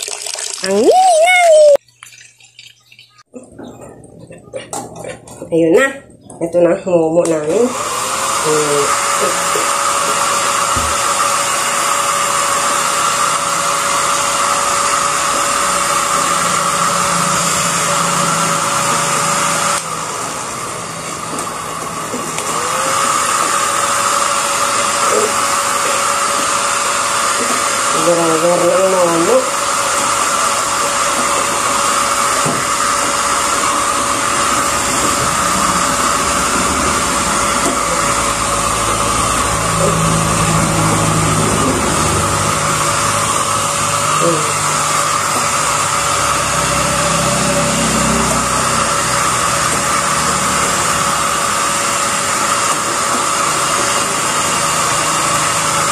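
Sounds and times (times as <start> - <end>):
hair dryer blowing: 7.2 - 55.9.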